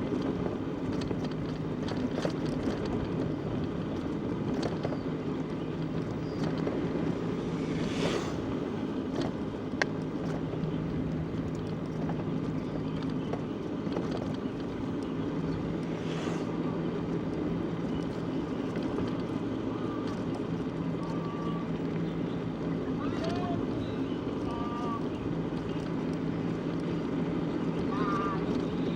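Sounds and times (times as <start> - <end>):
motor hum: 0.0 - 28.9
wind: 0.0 - 28.9
rolling noise: 0.1 - 28.8.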